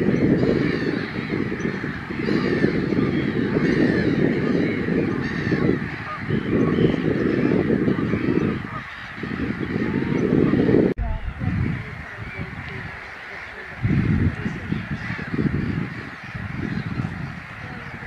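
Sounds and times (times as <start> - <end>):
waterbirds calling: 0.0 - 18.0
wind rumble on microphone: 0.0 - 18.0.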